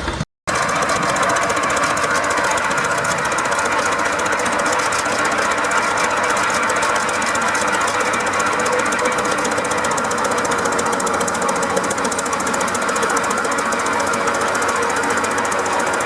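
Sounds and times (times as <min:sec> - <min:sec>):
engine clattering: 0:00.0 - 0:16.0.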